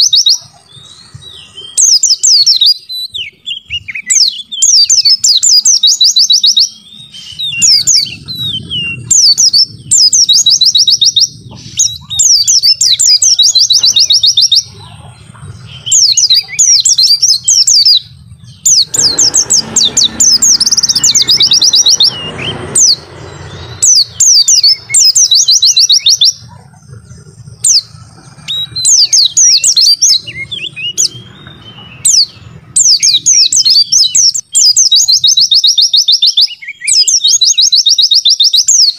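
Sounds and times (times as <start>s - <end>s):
bird trilling chirps: 0.0s - 38.9s.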